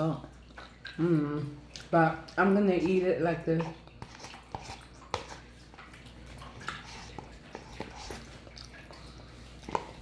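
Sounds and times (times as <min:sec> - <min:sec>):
person chewing with wet smacks: 0:00.1 - 0:10.0.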